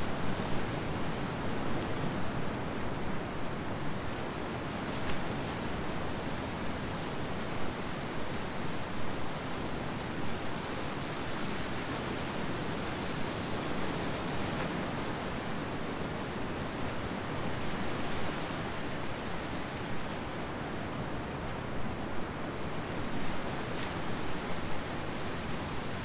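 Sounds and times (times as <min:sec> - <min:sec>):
ocean surf washing on beach: 0:00.0 - 0:26.0.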